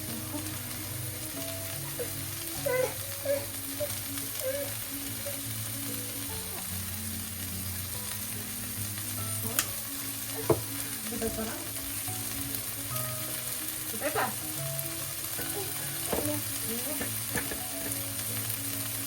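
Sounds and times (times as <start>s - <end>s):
background music with held notes: 0.0s - 19.0s
food sizzling in a frying pan: 0.0s - 19.0s.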